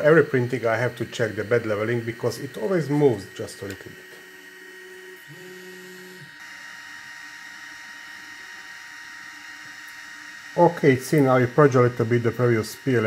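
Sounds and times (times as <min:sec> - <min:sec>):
printer motor whine: 0:00.0 - 0:13.0.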